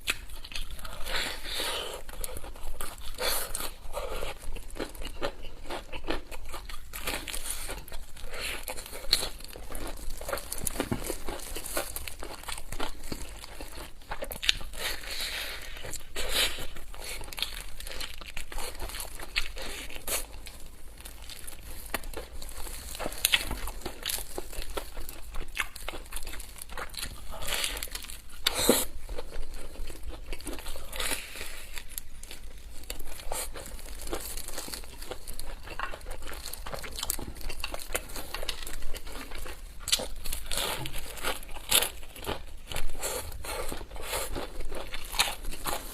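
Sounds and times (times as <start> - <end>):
food wrapping crinkling: 0.0 - 45.9.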